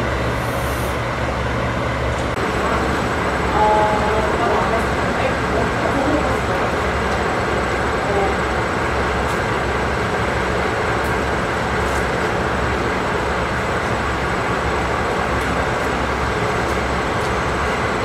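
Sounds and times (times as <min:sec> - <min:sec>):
diesel locomotive engines idling: 0:00.0 - 0:18.0.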